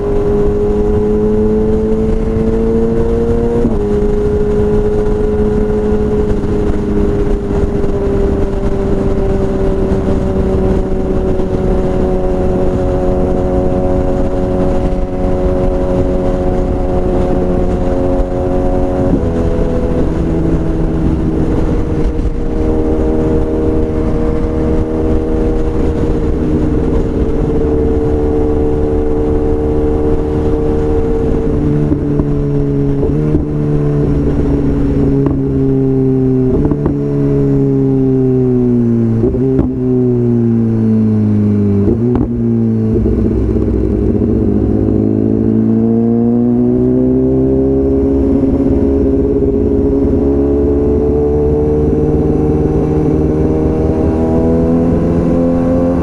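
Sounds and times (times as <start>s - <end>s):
loud motorcycle engine: 0.0s - 56.0s.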